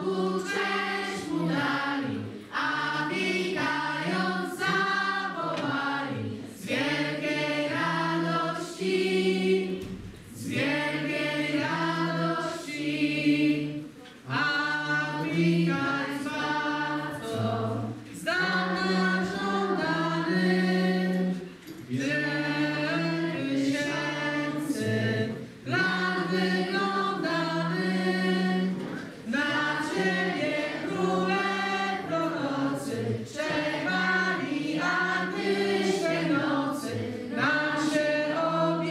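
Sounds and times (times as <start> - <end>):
group singing a carol unaccompanied: 0.0 - 38.9.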